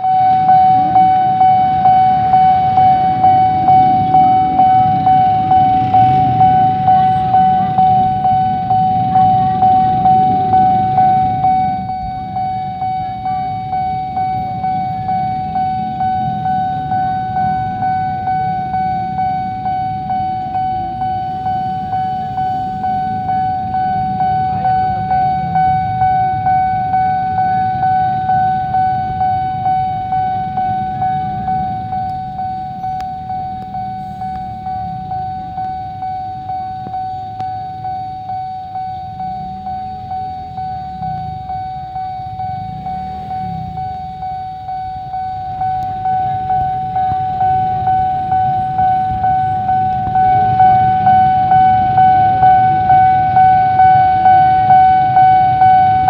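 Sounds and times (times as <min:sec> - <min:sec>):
idling traffic rumble: 0:00.0 - 0:56.0
level crossing bell ringing: 0:00.0 - 0:56.0.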